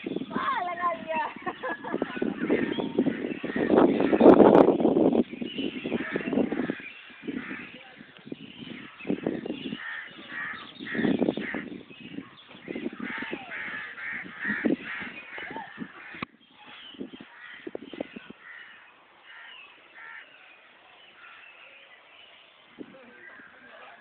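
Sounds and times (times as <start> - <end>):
birds calling: 0.0 - 24.0.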